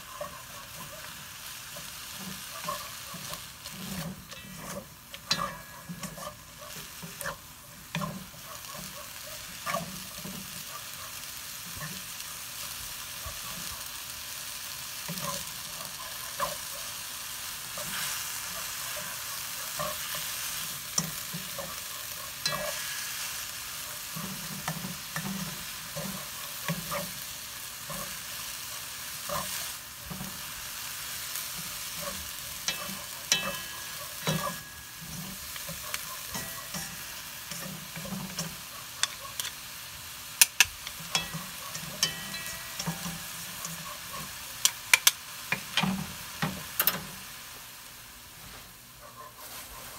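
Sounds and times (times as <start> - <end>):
chopsticks tapping and scraping a pan: 0.0 - 14.0, 14.6 - 47.2
bean sprouts sizzling in a wok: 0.0 - 49.9.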